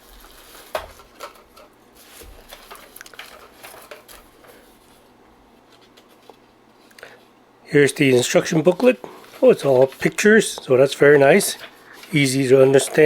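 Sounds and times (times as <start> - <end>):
paper and cardboard rustling: 0.0 - 6.9, 8.0 - 13.0.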